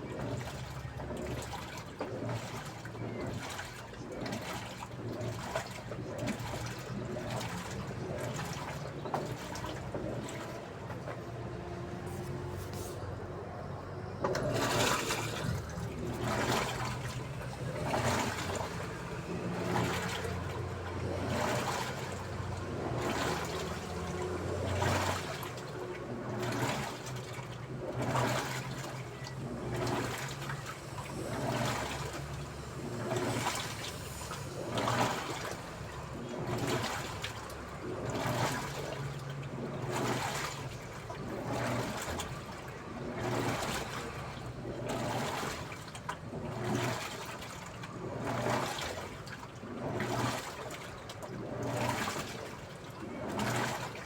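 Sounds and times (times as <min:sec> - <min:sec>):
washing machine motor hum: 0:00.0 - 0:54.0
water sloshing in drum: 0:00.0 - 0:54.0.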